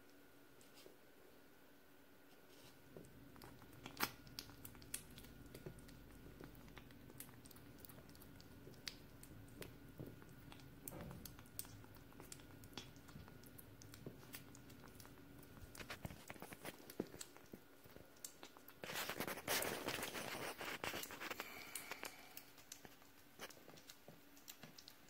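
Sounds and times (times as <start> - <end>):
kitten chewing and licking: 2.4 - 25.0.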